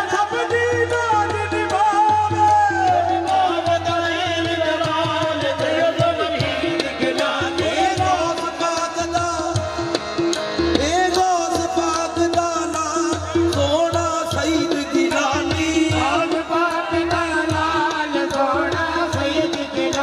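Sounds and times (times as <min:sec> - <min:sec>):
hand drum rhythm: 0:00.0 - 0:20.0
man singing devotional song: 0:00.0 - 0:20.0.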